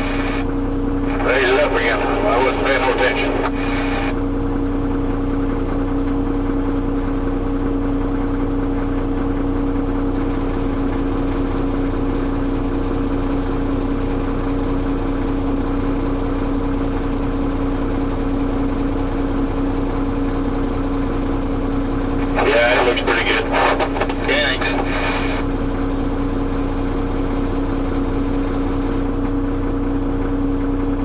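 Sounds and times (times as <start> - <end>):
heavy vehicle engine idling: 0.0 - 31.0.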